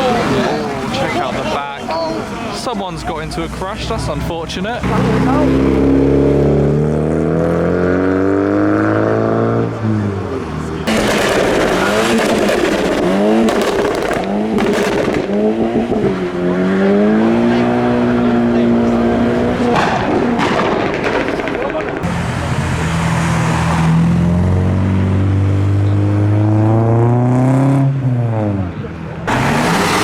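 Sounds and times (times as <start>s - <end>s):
car engine revving hard: 3.9s - 21.2s, 22.1s - 30.0s.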